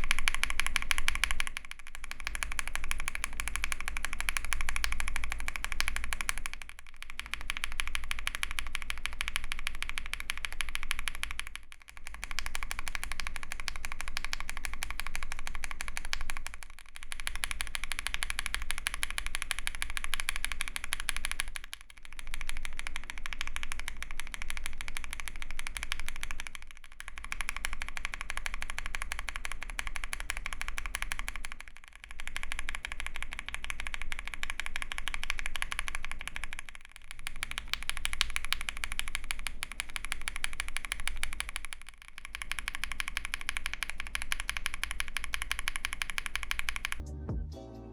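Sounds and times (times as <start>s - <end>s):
mechanical keyboard typing: 0.0s - 47.0s.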